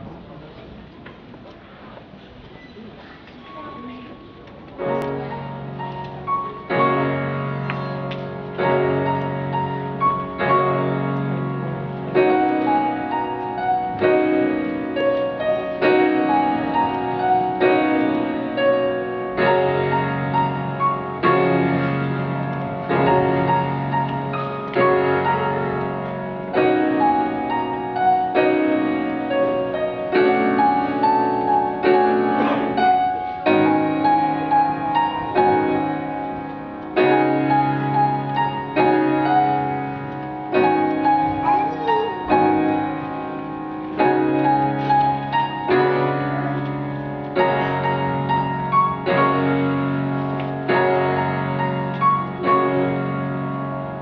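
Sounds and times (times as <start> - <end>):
piano duet: 1.7 - 54.0.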